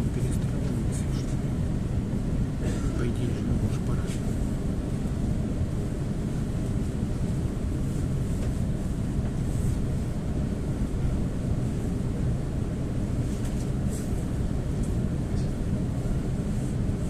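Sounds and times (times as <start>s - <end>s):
train rumbling along track: 0.0s - 17.0s.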